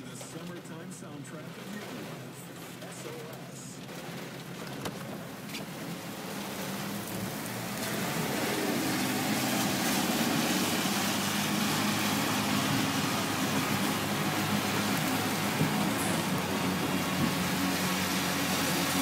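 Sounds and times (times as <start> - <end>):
car engine hum: 0.0 - 19.0
rain and wet road hiss: 0.0 - 19.0.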